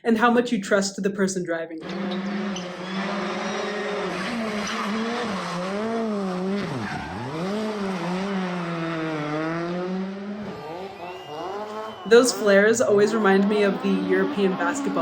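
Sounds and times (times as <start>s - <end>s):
rally car engine: 1.8s - 15.0s.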